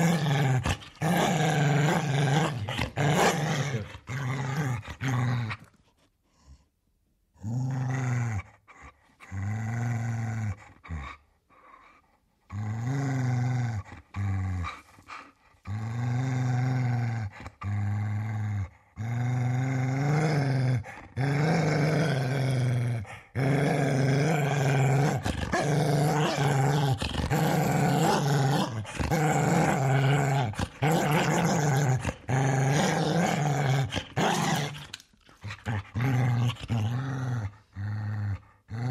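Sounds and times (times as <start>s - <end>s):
large dog growling: 0.0s - 5.7s, 7.4s - 11.2s, 12.5s - 38.9s.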